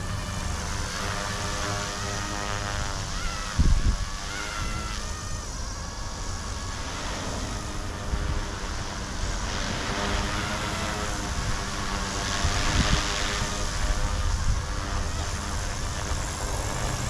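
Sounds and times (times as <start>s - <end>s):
rc helicopter rotors whirring: 0.0s - 17.0s
wind on microphone: 0.0s - 17.0s.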